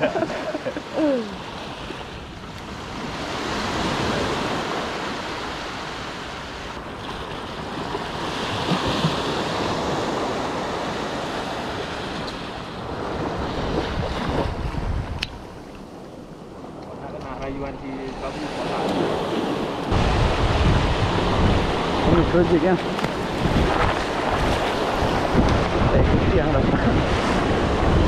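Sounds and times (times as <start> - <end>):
small waves breaking on sand: 0.0 - 17.1, 17.8 - 28.0
wind buffeting the microphone: 1.5 - 28.0.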